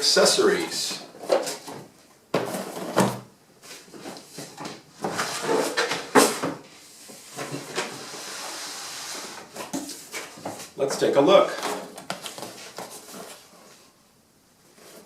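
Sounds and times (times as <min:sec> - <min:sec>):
cardboard rustling and scraping: 0:01.1 - 0:14.0, 0:14.6 - 0:15.0.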